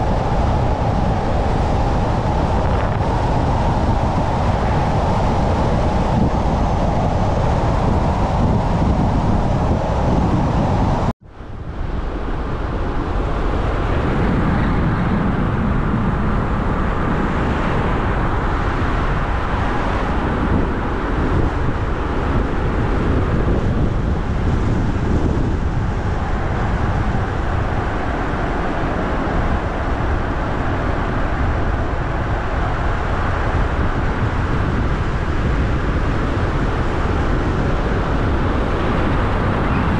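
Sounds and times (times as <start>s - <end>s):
car tyre and wind rumble: 0.0s - 39.9s.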